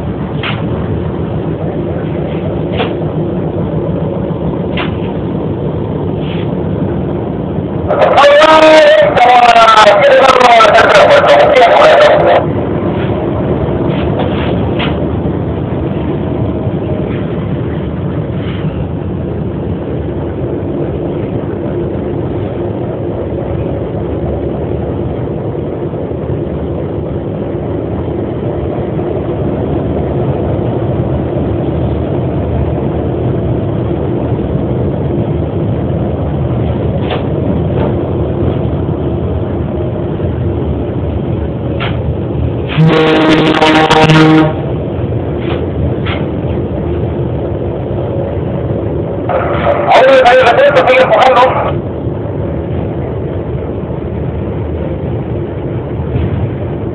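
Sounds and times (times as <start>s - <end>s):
locomotive engine running: 0.0s - 56.9s.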